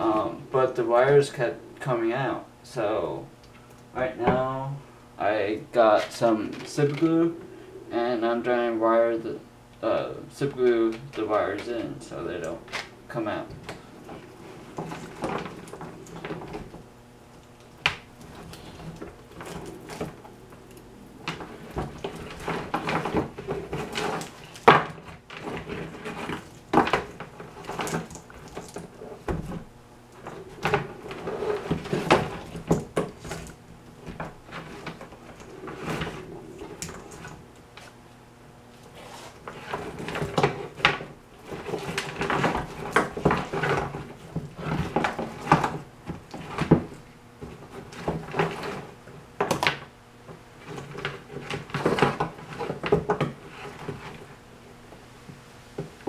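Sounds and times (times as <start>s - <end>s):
wires rustling: 0.0s - 56.0s.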